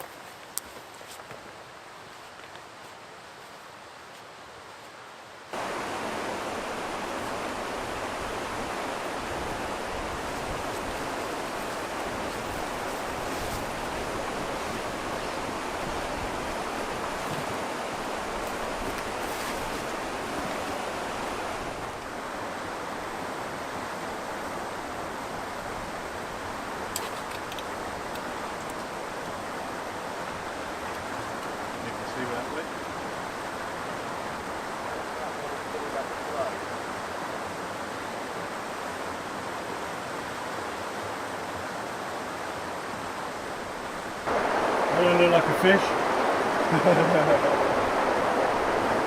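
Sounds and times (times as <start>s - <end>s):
white water rushing over rapids: 2.7s - 49.0s.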